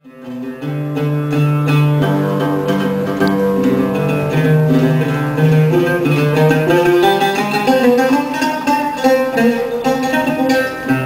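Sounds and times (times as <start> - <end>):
plucked strings slow melody: 0.0 - 11.0.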